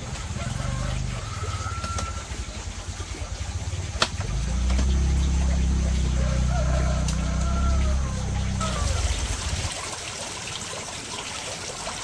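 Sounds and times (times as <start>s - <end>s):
small engine running: 0.0s - 9.7s.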